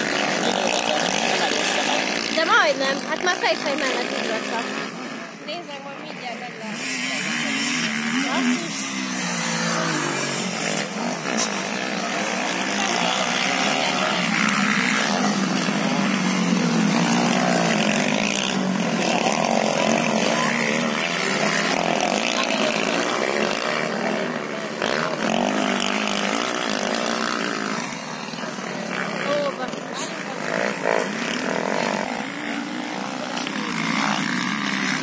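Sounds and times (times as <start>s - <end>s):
motocross bike engines revving: 0.0s - 35.0s.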